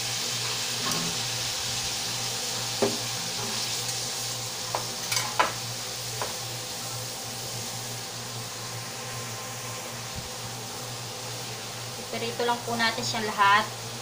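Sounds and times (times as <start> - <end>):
chicken wings sizzling in oil: 0.0 - 14.0.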